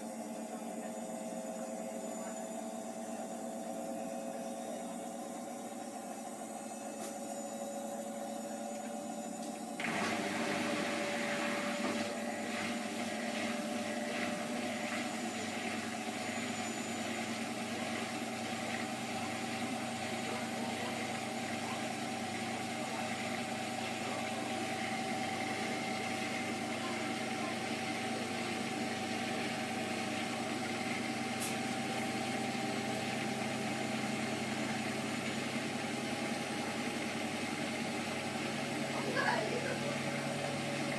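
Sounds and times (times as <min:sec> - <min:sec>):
washing machine motor whining: 0:00.0 - 0:40.9.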